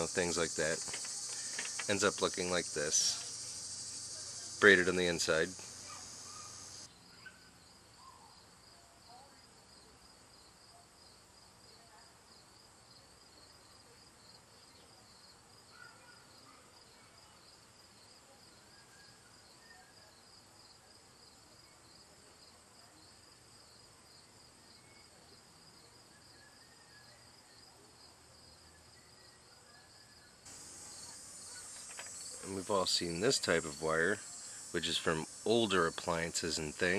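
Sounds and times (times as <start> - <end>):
insect chirping: 0.0 - 27.7, 28.4 - 36.9.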